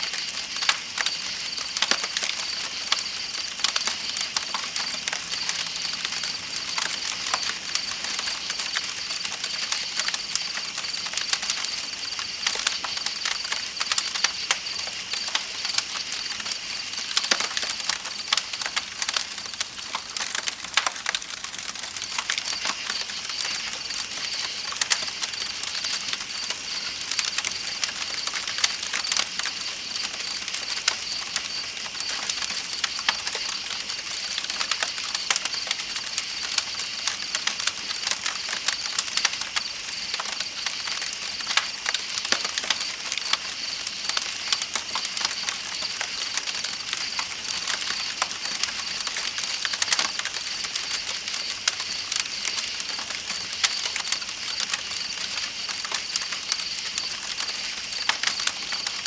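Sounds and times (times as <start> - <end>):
night insects chirping: 0.0 - 59.0
campfire crackling and popping: 0.1 - 59.0.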